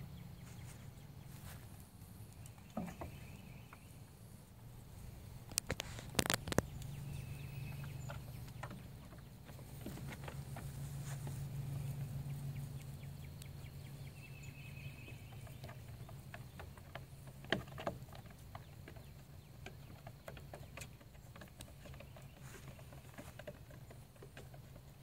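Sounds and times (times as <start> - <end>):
hooves clattering on wood: 0.4 - 4.1, 4.7 - 25.0.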